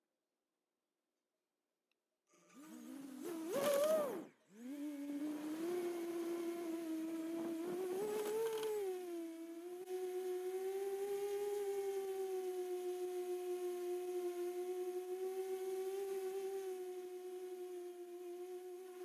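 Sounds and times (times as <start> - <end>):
quadcopter motors whining: 2.3 - 19.0.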